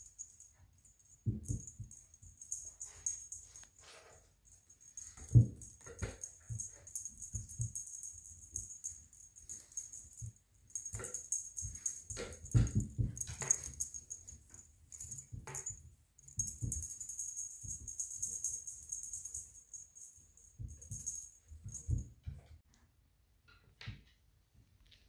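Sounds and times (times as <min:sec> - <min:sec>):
small bell jingling: 0:00.0 - 0:22.3.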